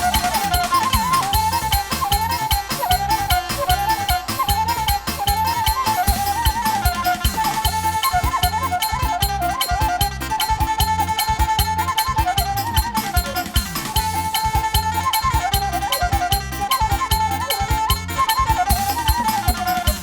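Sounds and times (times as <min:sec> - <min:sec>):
bass line: 0:00.0 - 0:20.0
fast steady percussion: 0:00.0 - 0:20.0
ornamented lead melody: 0:00.0 - 0:20.0.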